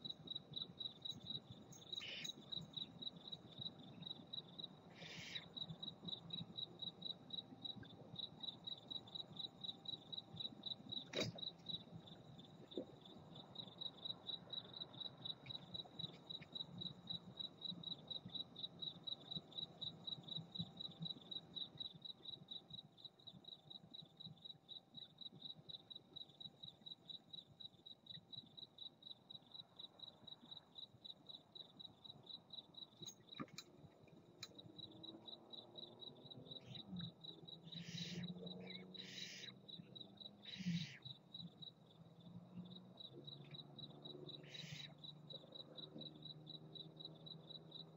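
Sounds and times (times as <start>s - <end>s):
faint cricket chirping: 0.0s - 47.9s.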